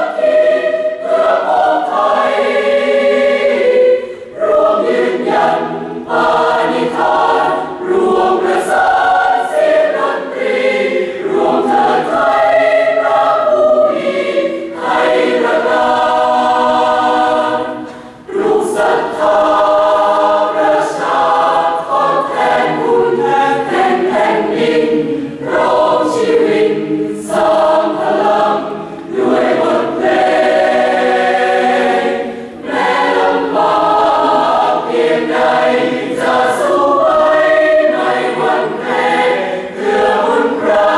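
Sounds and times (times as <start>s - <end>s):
large mixed choir singing: 0.0s - 40.9s.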